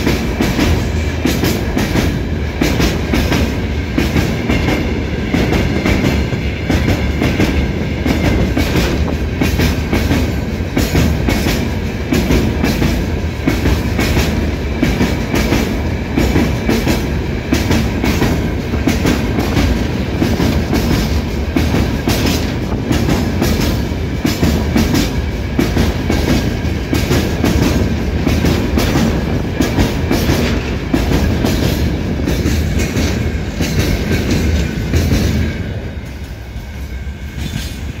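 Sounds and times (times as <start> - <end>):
freight train wagons rumbling: 0.0 - 38.0.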